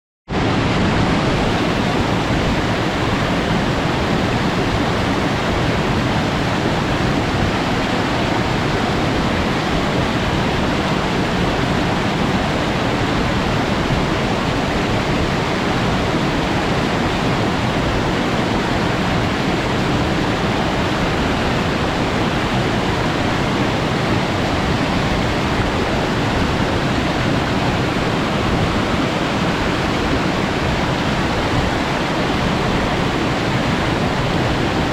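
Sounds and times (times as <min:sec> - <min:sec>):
waterfall crashing: 0:00.3 - 0:34.9.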